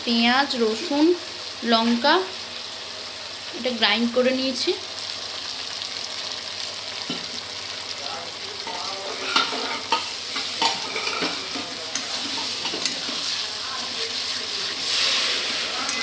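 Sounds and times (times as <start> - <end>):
paste sizzling in oil in a pan: 0.0 - 16.0.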